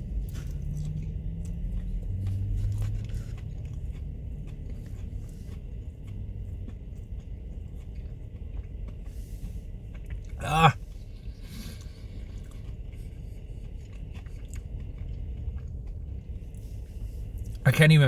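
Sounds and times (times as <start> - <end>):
person chewing food: 0.0 - 17.6
low steady hum: 0.0 - 18.0.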